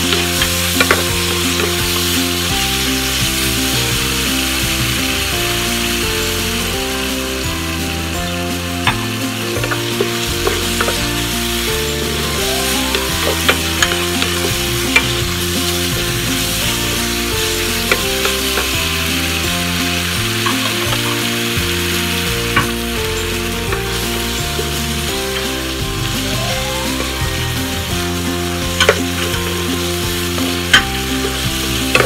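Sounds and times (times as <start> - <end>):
background music: 0.0 - 32.0
onions sizzling in frying pan: 0.0 - 32.0.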